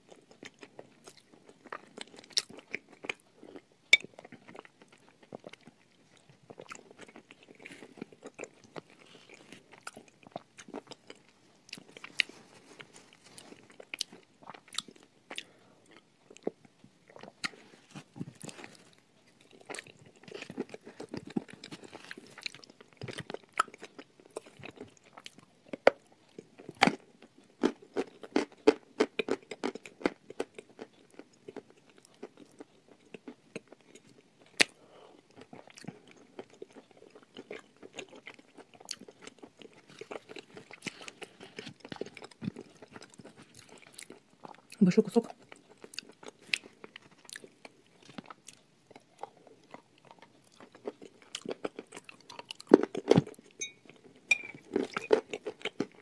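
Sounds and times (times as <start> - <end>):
soft chewing: 0.0 - 56.0.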